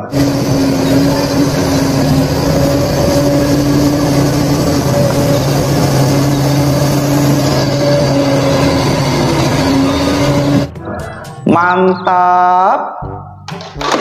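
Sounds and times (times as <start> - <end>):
engine-like drone: 0.0 - 11.7.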